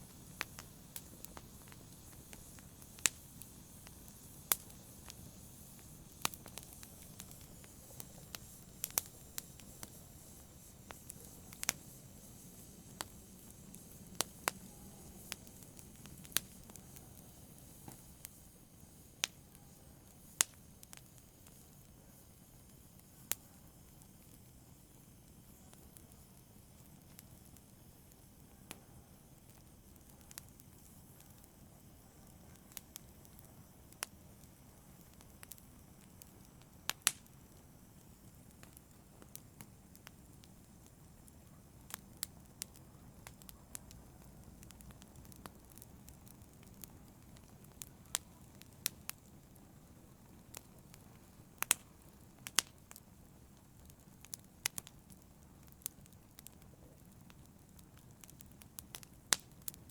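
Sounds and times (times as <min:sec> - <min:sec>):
fire crackling: 0:00.0 - 0:59.9
soft hiss of fire: 0:00.0 - 0:59.9.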